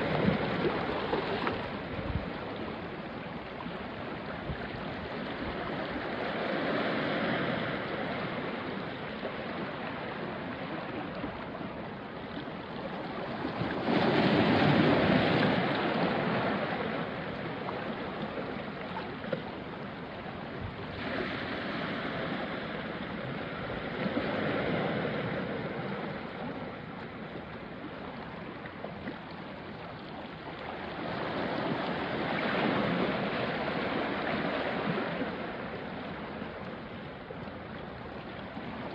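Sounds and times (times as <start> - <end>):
waves washing onto rocky shore: 0.0 - 36.6.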